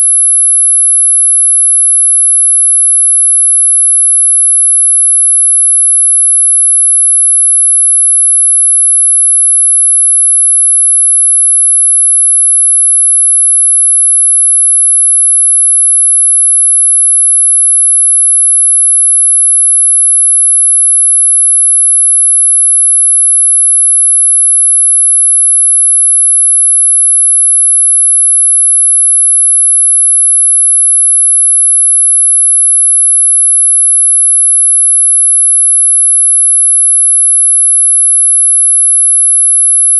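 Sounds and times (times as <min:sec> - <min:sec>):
high-pitched sine tone: 0:00.0 - 0:39.9.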